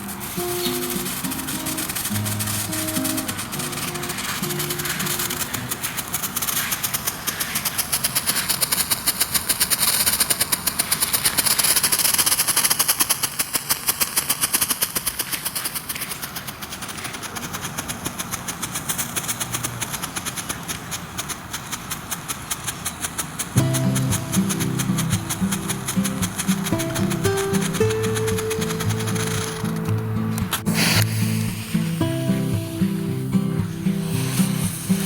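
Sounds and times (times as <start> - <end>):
firework hiss: 0.0 - 35.0
fountain firework crackling: 0.0 - 35.0.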